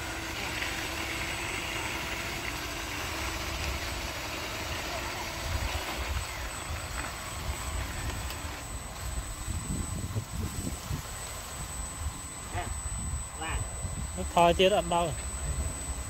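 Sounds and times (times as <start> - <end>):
toy electric motor running: 0.0 - 16.0.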